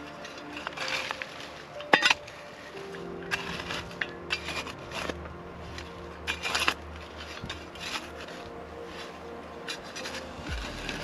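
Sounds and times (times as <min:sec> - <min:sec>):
shovel scraping in ash and dirt: 0:00.0 - 0:11.0
soft background music: 0:00.0 - 0:11.0.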